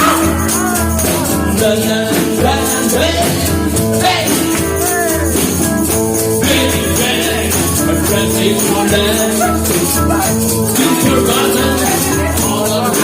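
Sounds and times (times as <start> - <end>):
band playing rhythm and blues: 0.0 - 13.0.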